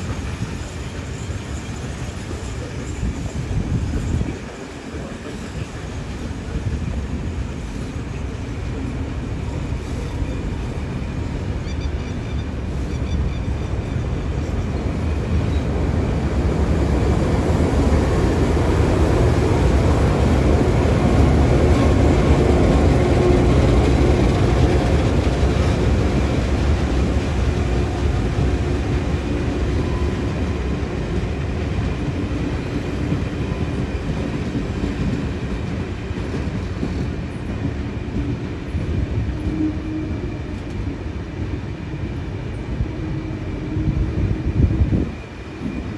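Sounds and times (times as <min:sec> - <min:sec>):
diesel locomotive passing: 0:00.0 - 0:45.9
train wheels on rails: 0:00.0 - 0:45.9.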